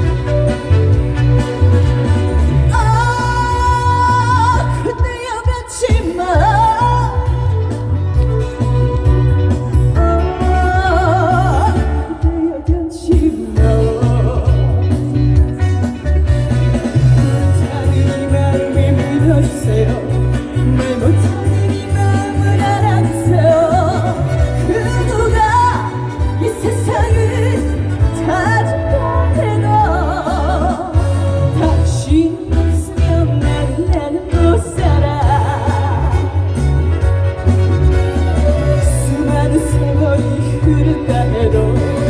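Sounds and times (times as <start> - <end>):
woman singing with vibrato: 0.0 - 8.7, 9.9 - 15.3, 17.0 - 36.6, 38.3 - 42.0.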